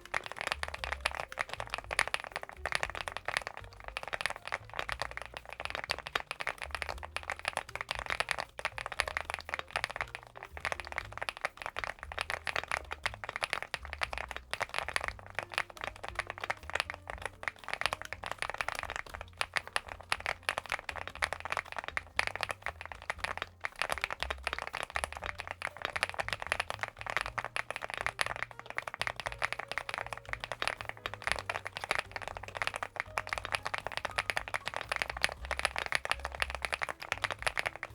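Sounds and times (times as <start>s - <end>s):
fast typing on mechanical keyboard: 0.0s - 37.9s.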